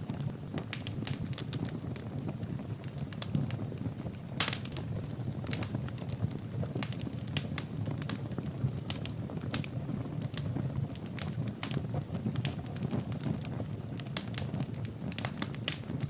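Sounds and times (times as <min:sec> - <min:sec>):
fire burning in fireplace: 0:00.0 - 0:16.0.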